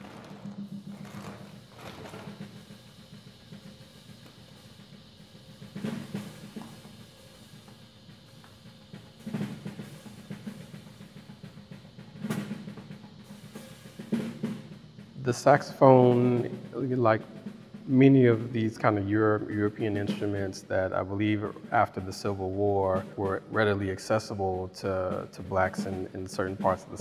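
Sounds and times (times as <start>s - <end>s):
drum kit rolling softly: 0.0s - 27.0s.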